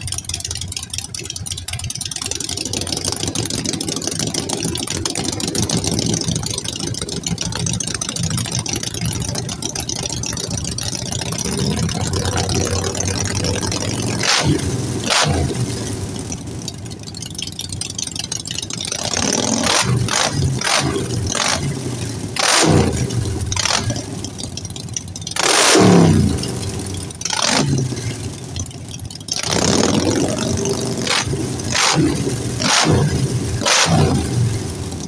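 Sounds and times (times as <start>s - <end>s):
motorcycle engines idling: 0.0s - 35.0s
motorcycle throttle revving: 0.0s - 35.0s.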